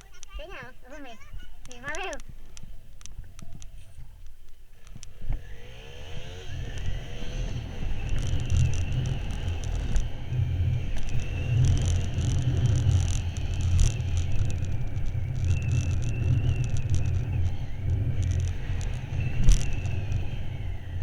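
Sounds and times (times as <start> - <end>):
motorcycle engine pulling away: 2.4 - 21.0.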